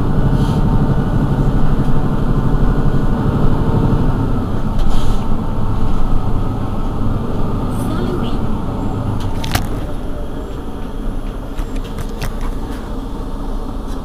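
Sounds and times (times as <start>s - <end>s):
bus engine idling: 0.0s - 14.0s.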